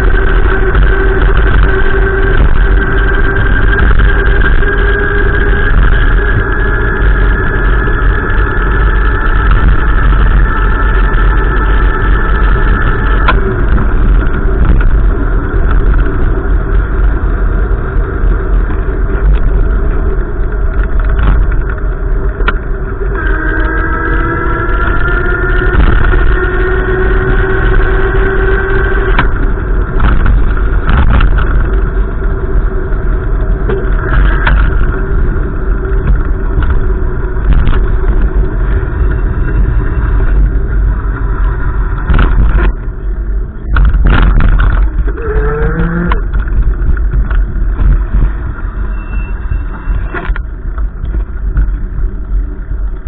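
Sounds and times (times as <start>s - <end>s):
vehicle engine revving: 0.0s - 53.0s
wind buffeting microphone: 0.0s - 53.0s.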